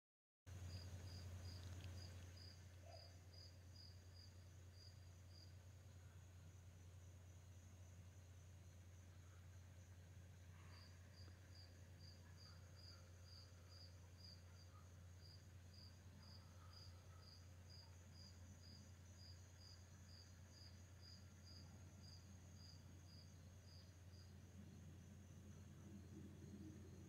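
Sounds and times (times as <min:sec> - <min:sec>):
crickets chirping: 0:00.5 - 0:27.0.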